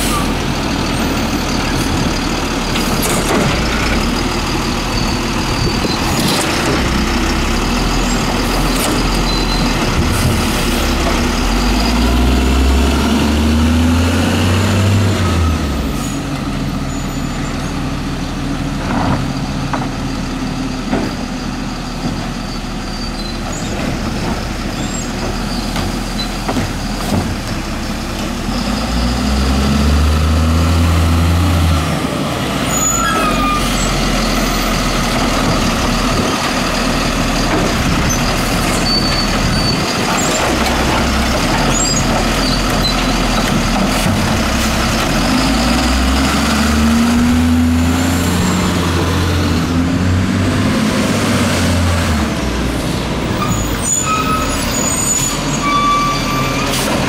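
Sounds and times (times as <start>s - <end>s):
truck engine running and revving: 0.0s - 57.0s.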